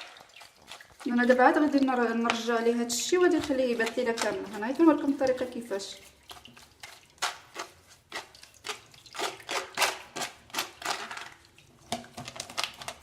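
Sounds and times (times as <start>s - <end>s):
utensil scraping a strainer: 0.0s - 11.4s.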